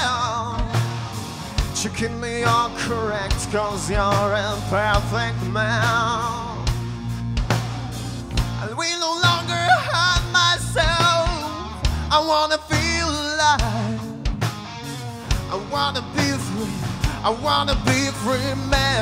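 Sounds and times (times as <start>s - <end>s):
singer's lead vocal: 0.0s - 14.6s, 15.3s - 19.0s
bass guitar: 0.0s - 19.0s
drums: 0.0s - 19.0s
electric guitar: 0.0s - 19.0s.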